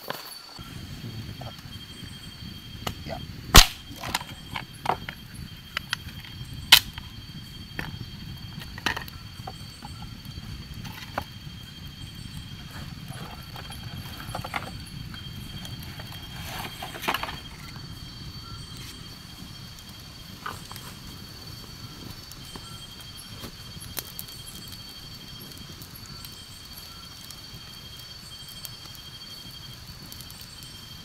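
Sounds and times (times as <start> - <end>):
faint high whine: 0.0 - 31.0
steady low hiss: 0.0 - 31.0.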